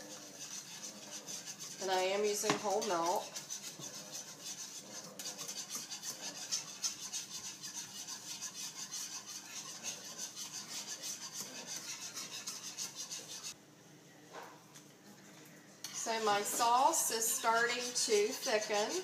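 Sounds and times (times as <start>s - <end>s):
wire whisk scraping a skillet: 0.0s - 13.6s, 15.9s - 19.0s.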